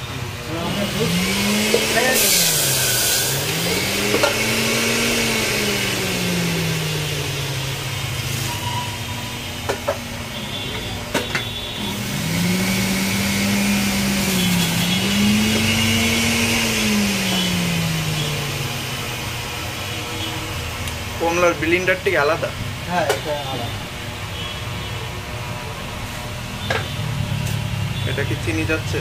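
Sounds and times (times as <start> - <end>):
electric juicer motor hum: 0.0 - 24.5.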